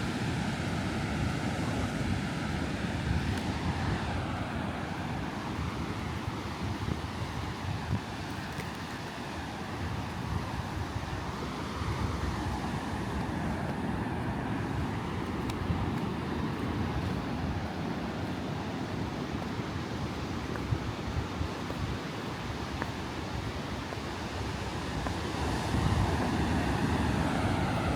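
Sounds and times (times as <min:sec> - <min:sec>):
ocean surf washing onto beach: 0:00.0 - 0:27.9
wind rumbling on microphone: 0:00.0 - 0:27.9.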